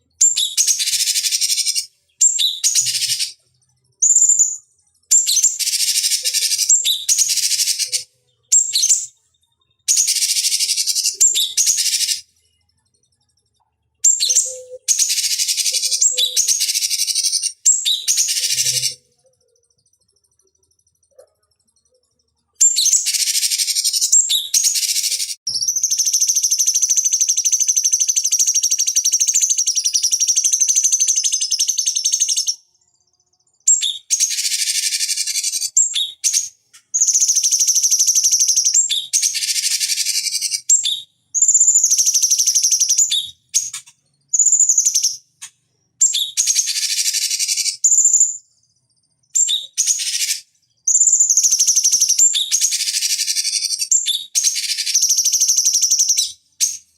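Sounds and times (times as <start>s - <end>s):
bird singing high chattering phrases: 0.0s - 56.9s.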